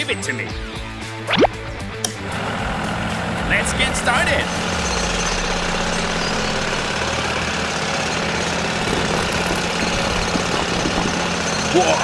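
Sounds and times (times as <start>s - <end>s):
truck engine idling: 2.1s - 12.0s.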